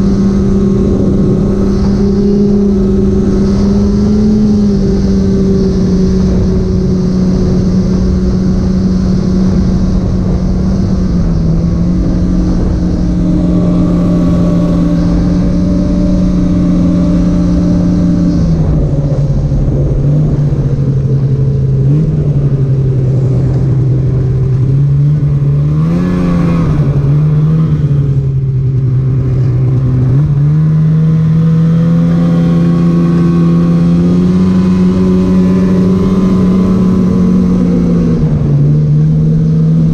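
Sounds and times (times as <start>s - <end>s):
snowmobile engine drone: 0.0s - 39.9s.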